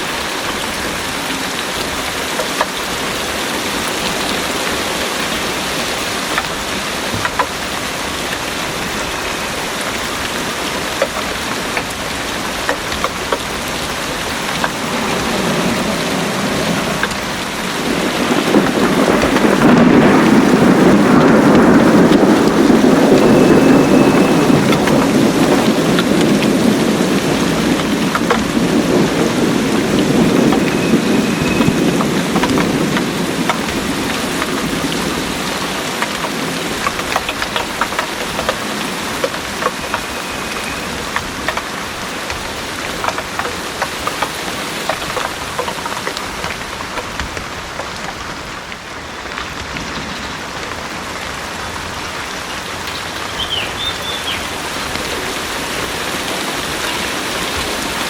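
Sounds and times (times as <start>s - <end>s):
heavy rain falling: 0.0s - 58.0s
thunder rumbling: 0.0s - 58.0s.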